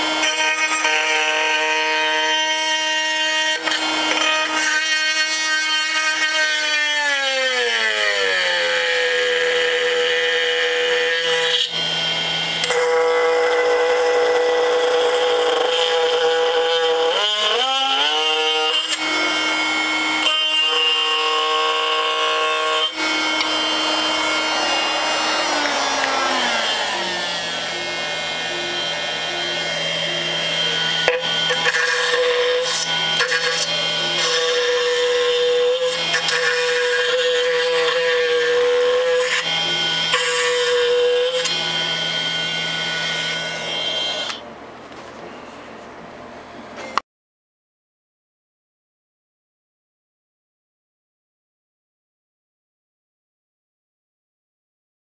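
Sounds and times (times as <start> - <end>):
oscillating multi-tool buzzing: 0.0 - 44.4.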